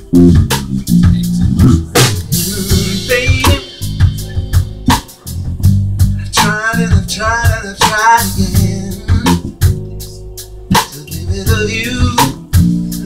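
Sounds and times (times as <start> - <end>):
bass notes: 0.0 - 13.0
drum kit strikes: 0.0 - 13.0
wavering lead melody: 0.0 - 13.0.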